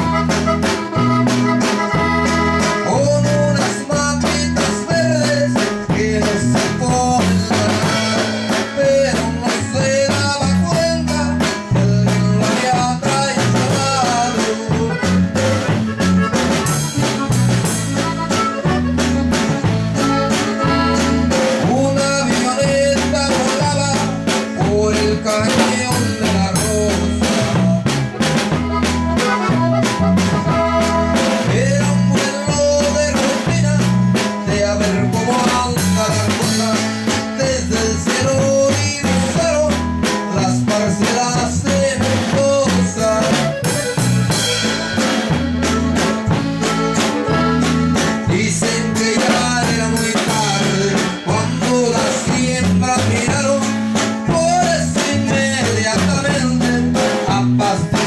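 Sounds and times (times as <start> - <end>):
acoustic guitar: 0.0 - 58.0
button accordion melody: 0.0 - 58.0
drums: 0.0 - 58.0
electric bass: 0.0 - 58.0.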